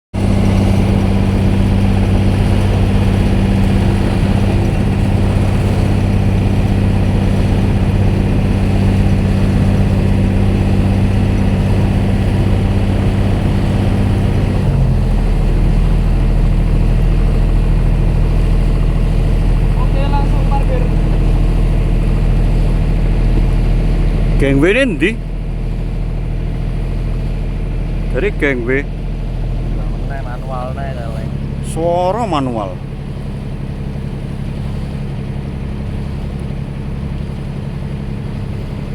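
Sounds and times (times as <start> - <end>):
deep engine hum: 0.1 - 38.9
ship diesel machinery droning: 0.1 - 38.9.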